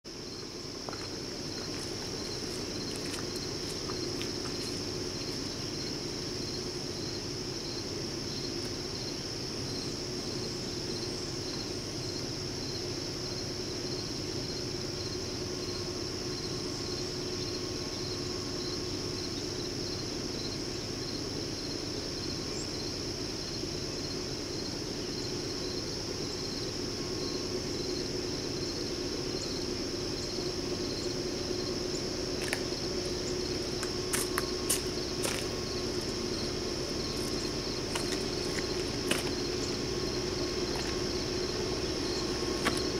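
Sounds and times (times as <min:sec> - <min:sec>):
crickets chirping: 0:00.1 - 0:42.9
insects buzzing: 0:00.1 - 0:42.9
low steady hum: 0:00.1 - 0:42.9.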